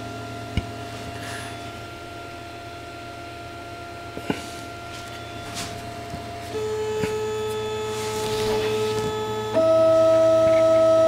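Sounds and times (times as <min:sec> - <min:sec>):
stepper motor whining: 0:00.0 - 0:11.0.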